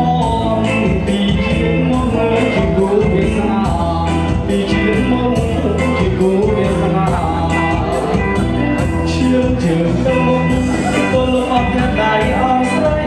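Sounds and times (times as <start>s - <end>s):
music with singing and beat: 0.0s - 13.0s.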